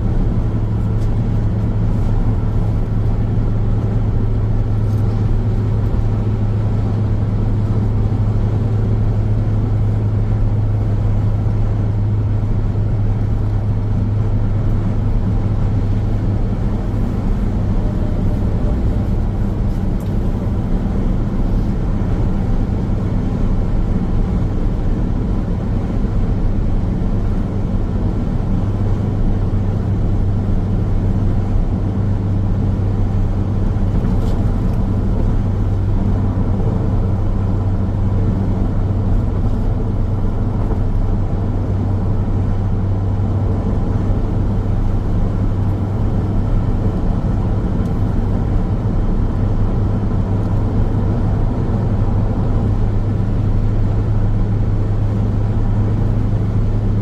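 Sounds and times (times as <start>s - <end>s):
car tyre and engine road noise: 0.0s - 57.0s.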